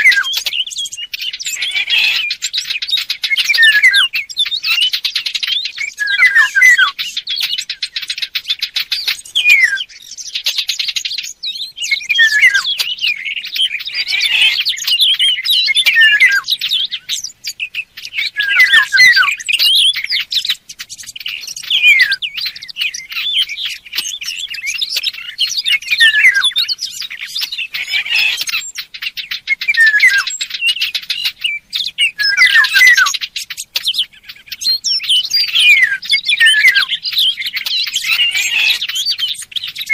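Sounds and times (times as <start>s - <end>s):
bird chirping and twittering: 0.0s - 39.9s
falling whistled bird notes: 0.0s - 39.9s.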